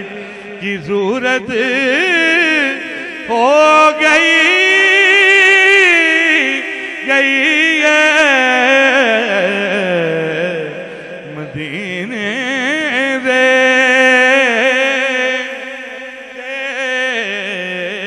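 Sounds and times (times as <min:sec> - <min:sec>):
man singing: 0:00.0 - 0:18.0.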